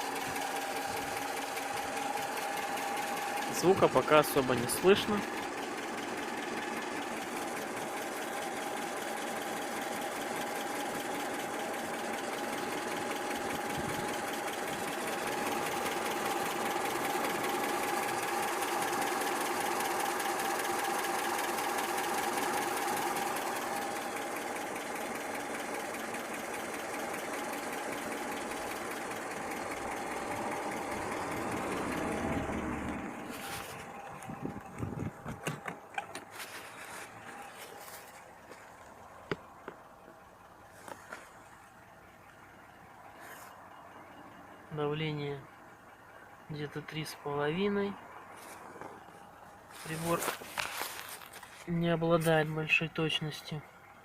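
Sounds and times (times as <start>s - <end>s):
petrol engine idling: 0.0s - 54.0s.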